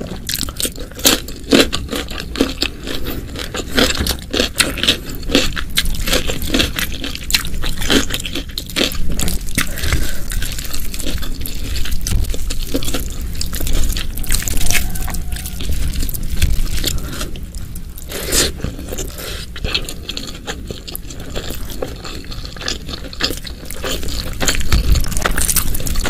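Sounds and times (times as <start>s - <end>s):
chewing and mouth sounds: 0.0s - 26.0s.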